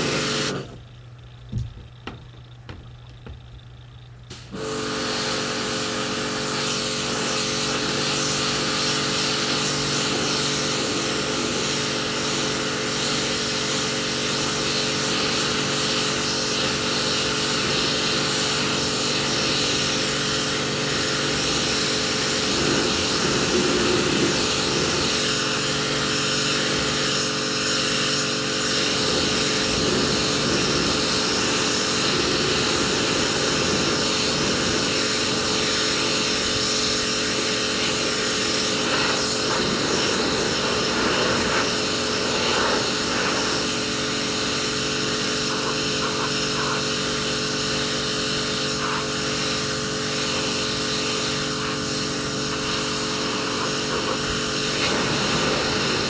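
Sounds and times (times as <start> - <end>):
high-pressure water jet hissing: 0.0 - 0.8, 4.3 - 56.0
pressure washer motor hum: 0.0 - 56.0.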